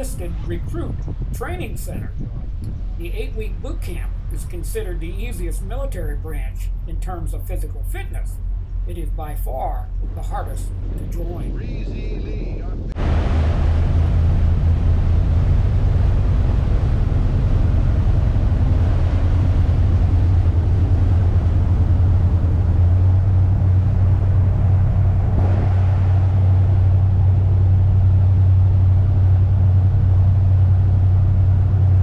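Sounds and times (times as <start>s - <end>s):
diesel boat engine droning: 0.0s - 32.0s.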